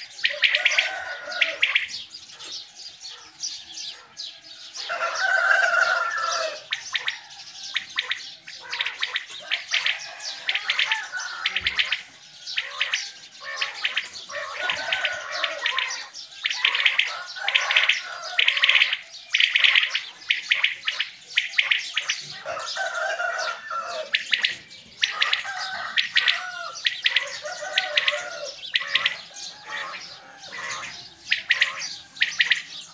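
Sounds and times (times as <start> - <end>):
quails calling: 0.0 - 32.9.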